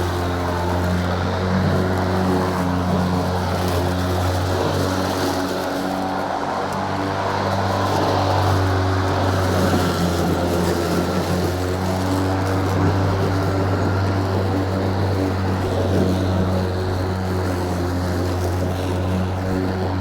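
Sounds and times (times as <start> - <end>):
electric lawnmower whirring: 0.0 - 20.0.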